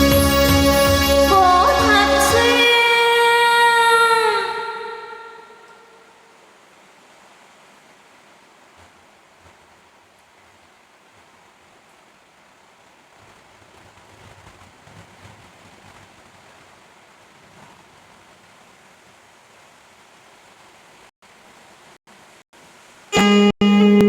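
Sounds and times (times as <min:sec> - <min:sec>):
faint hiss-like rushing noise: 0:01.8 - 0:23.2.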